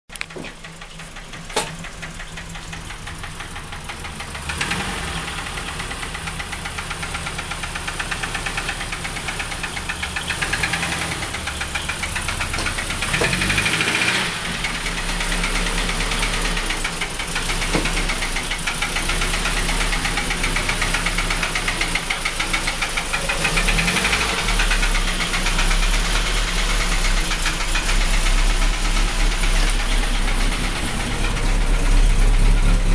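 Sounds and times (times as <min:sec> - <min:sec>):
car engine knocking and revving: 0:00.1 - 0:32.9.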